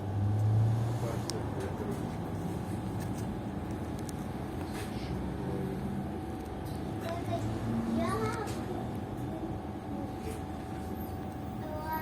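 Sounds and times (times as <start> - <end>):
thin constant whine: 0.0 - 12.0
trolleybus hum: 0.0 - 12.0.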